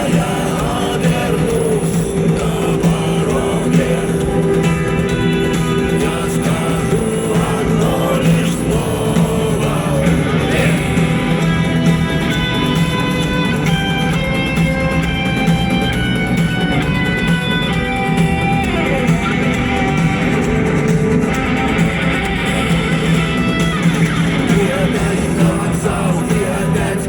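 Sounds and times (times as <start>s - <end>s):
bass: 0.0s - 27.0s
drums: 0.0s - 27.0s
electric guitars: 0.0s - 27.0s.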